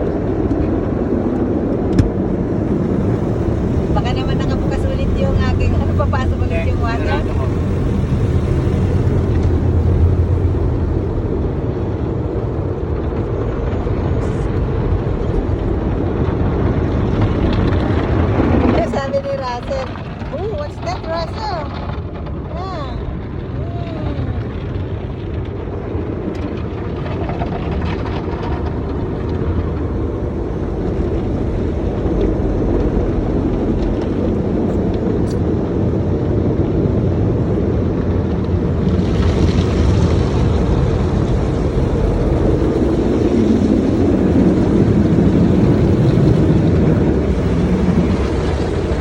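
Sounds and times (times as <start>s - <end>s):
car wash machinery rumbling: 0.0s - 49.0s.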